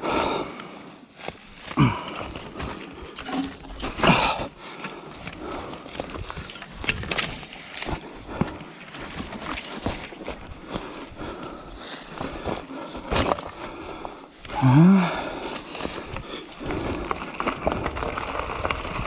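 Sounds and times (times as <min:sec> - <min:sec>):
footsteps on dry forest ground: 0:00.0 - 0:19.0
mountain bike clattering: 0:01.7 - 0:14.0, 0:15.4 - 0:19.0.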